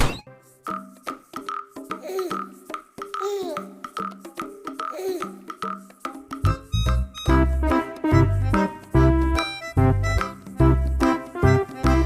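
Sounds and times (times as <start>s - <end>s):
playful background music: 0.0s - 12.0s.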